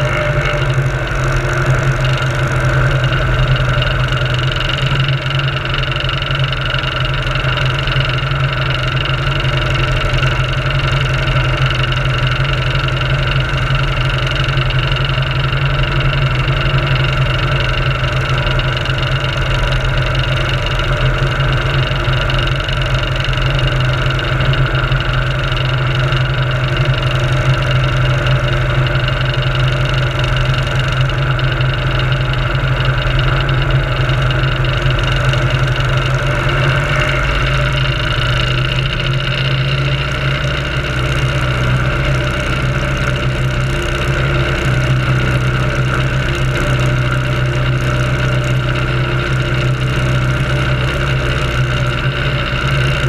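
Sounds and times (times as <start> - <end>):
piston engine running: 0.0 - 53.0.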